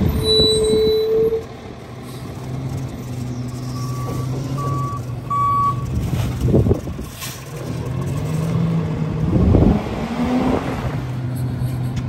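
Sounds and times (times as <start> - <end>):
garbage truck engine revving: 1.4 - 12.0.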